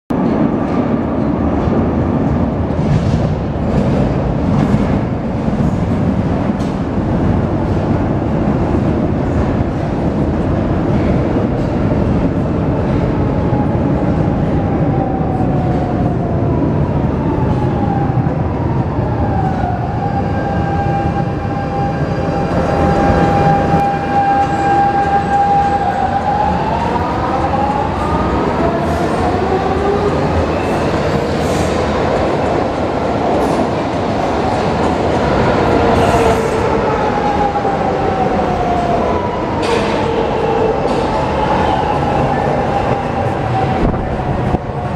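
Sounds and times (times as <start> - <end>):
train wheels rumbling on rail: 0.1 - 44.9.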